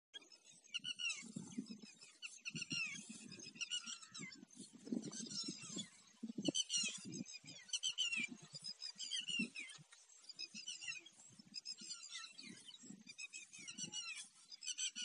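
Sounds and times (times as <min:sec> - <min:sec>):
birds chirping and twittering: 0:00.2 - 0:15.0.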